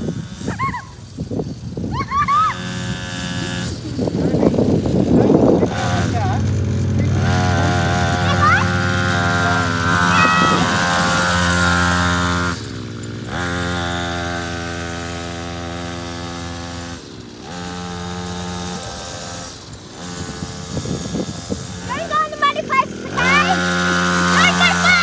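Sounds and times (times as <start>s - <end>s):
small quad engine running: 0.0s - 25.0s.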